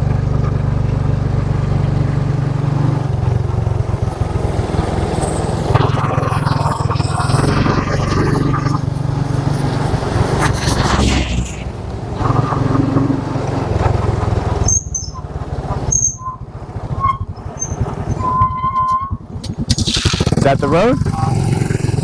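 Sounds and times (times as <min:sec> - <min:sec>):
motorcycle engine riding: 0:00.0 - 0:18.2, 0:18.8 - 0:22.0
wind and road noise: 0:00.0 - 0:22.0.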